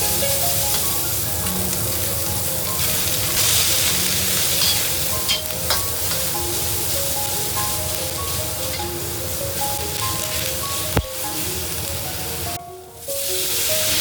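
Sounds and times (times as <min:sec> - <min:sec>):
food sizzling in a pan: 0:00.0 - 0:14.0
light background music: 0:00.0 - 0:14.0.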